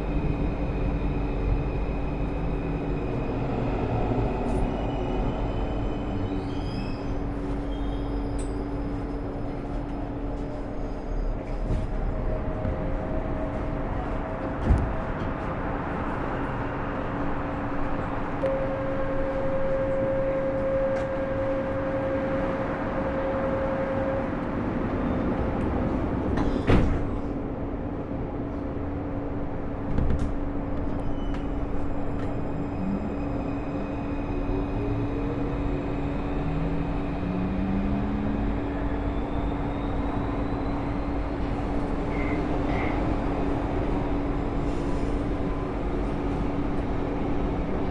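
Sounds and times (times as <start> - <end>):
metro train running noise: 0.0 - 47.9.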